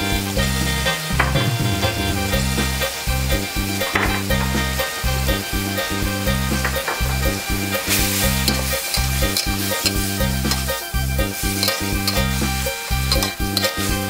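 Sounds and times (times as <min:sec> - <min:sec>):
background music: 0:00.0 - 0:14.0
food sizzling in oil: 0:00.0 - 0:14.0
spatula scraping a wok: 0:00.0 - 0:14.0.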